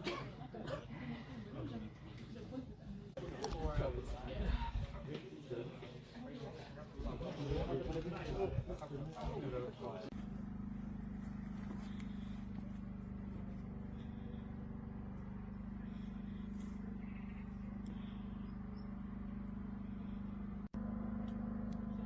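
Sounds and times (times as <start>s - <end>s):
low motor hum: 0.1s - 22.0s.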